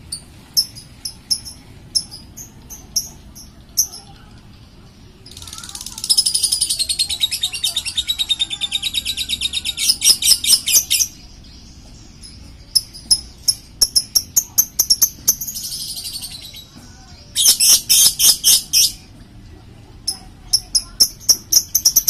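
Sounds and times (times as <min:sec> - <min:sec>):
songbird trilling and chirping: 0:00.1 - 0:19.2, 0:20.0 - 0:22.0.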